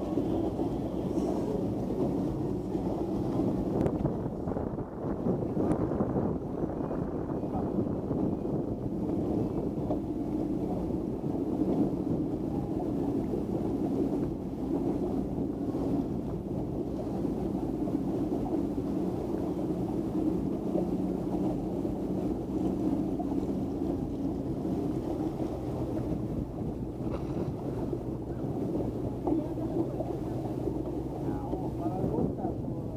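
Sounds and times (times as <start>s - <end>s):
motorboat engine humming: 0.0s - 32.9s.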